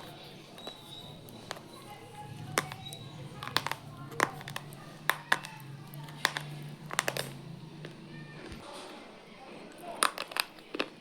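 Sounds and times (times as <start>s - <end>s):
crunching noodles being chewed: 0.0s - 11.0s.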